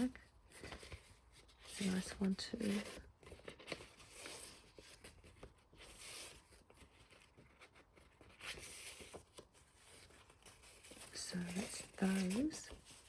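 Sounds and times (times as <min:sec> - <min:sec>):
paper sheets rustling: 0:00.0 - 0:13.0.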